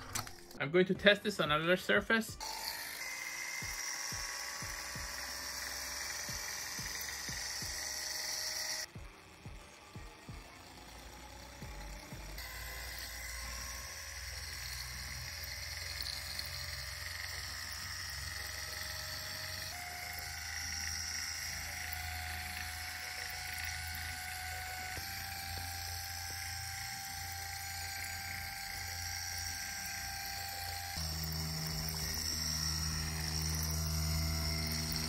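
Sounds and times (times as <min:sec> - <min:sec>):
toy motor whirring: 0:00.0 - 0:35.0.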